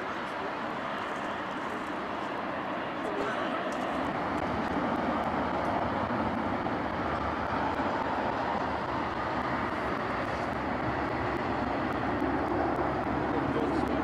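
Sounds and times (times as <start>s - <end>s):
distant jet engine rumble: 0.0s - 14.0s.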